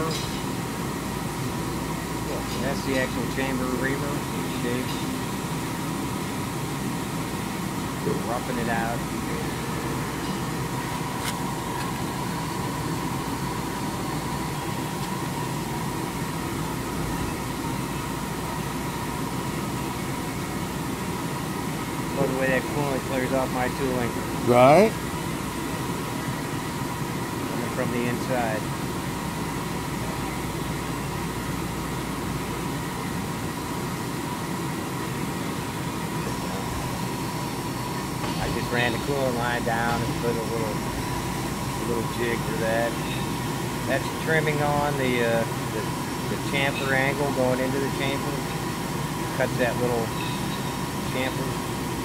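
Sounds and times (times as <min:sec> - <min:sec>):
coolant hissing: 0:00.0 - 0:52.0
metal lathe whine: 0:00.0 - 0:52.0.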